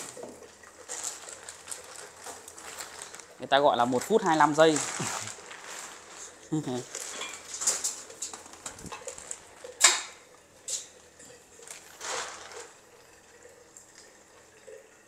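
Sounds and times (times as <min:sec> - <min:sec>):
water splashing: 0:00.0 - 0:14.9.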